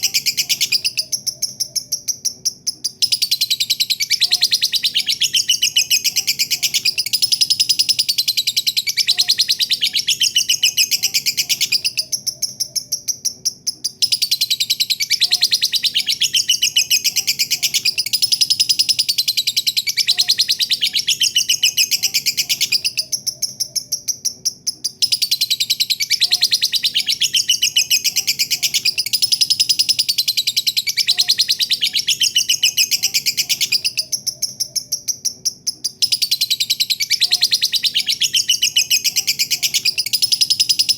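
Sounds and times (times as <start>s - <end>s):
lovebird high-pitched chattering song: 0.0s - 40.9s.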